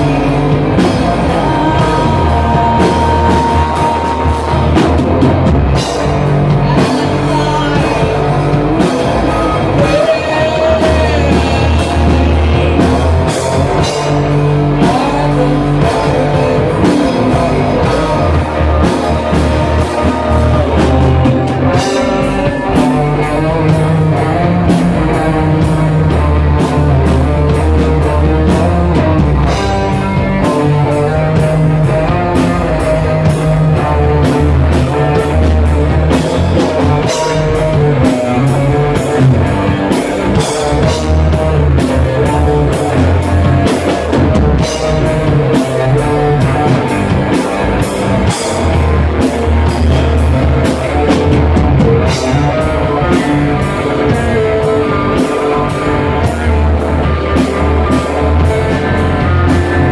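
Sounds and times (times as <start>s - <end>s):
bass guitar: 0.0s - 59.9s
drum kit: 0.0s - 59.9s
electric guitars: 0.0s - 59.9s
person singing: 0.0s - 59.9s.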